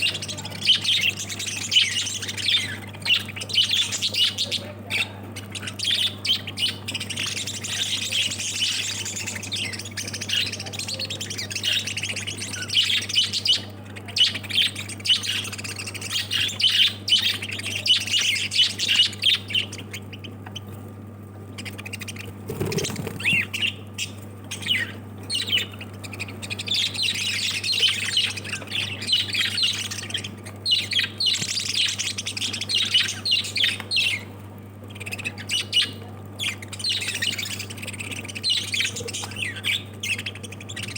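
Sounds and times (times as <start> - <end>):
lovebirds chattering and squawking: 0.0 - 40.9
steady low hum: 0.0 - 40.9.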